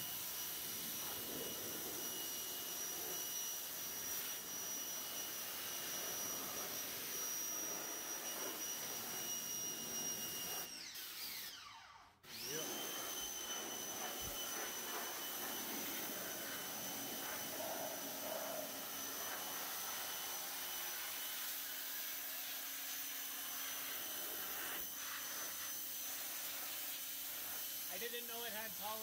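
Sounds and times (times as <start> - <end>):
pressure washer jet hissing on metal: 0.0 - 10.6, 12.5 - 29.0
high motor whine: 0.0 - 24.9.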